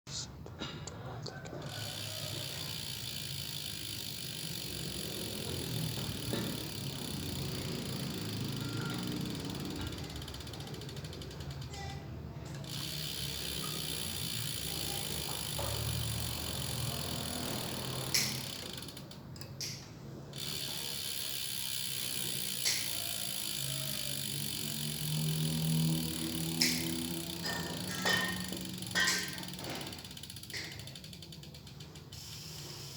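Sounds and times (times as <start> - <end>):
bicycle freehub clicking: 0.5 - 32.9.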